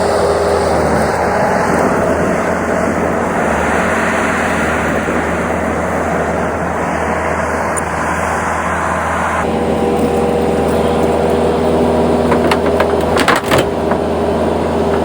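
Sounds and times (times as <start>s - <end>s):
large engine rumbling: 0.0s - 15.0s.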